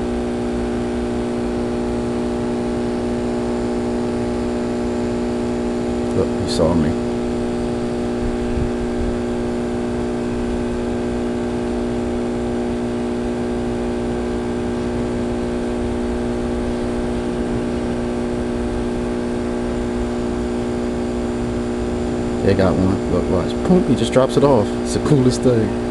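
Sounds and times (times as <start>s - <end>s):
machine hum with low drone: 0.0s - 25.9s.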